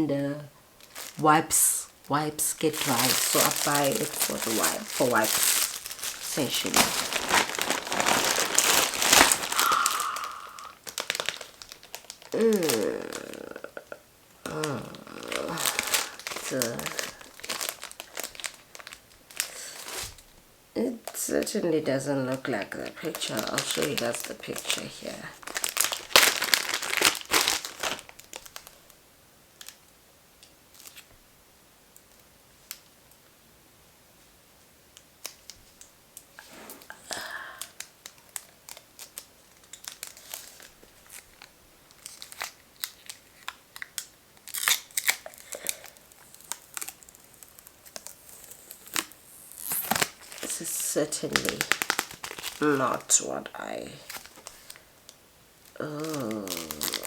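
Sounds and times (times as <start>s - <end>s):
plastic packaging crinkling: 0.8s - 20.4s, 21.0s - 29.0s, 29.6s - 29.8s, 30.7s - 31.1s, 35.2s - 57.0s.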